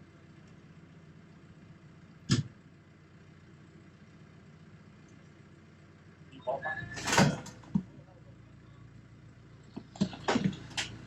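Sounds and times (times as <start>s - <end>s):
vehicle engine idling faintly: 0.0s - 11.0s.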